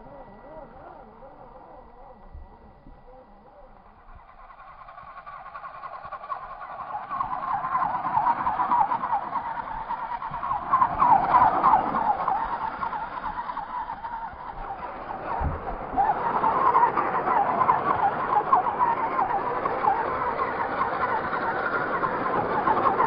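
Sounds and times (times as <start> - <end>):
toy truck motor whining: 0.0 - 23.0.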